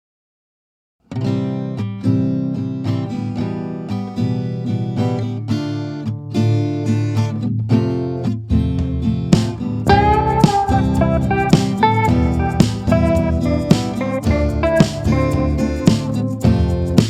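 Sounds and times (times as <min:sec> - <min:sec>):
acoustic guitar music: 0:01.0 - 0:17.0.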